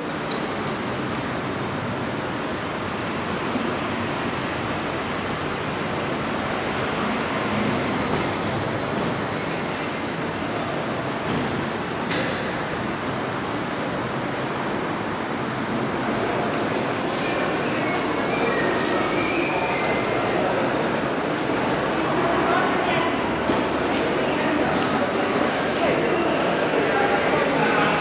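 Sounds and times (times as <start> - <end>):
traffic noise: 0.0 - 28.0.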